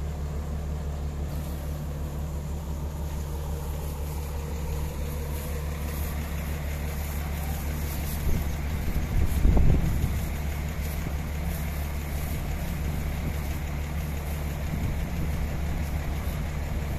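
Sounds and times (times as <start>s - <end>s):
diesel engine idling: 0.0s - 16.9s
plastic sheeting crinkling: 3.3s - 16.9s.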